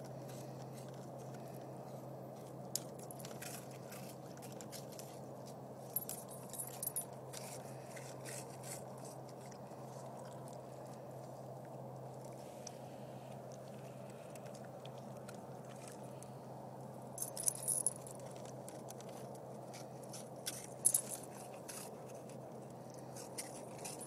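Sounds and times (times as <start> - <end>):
steady low hum: 0.0 - 24.0
dogs crunching snacks: 0.1 - 5.6, 6.2 - 16.2, 18.1 - 24.0.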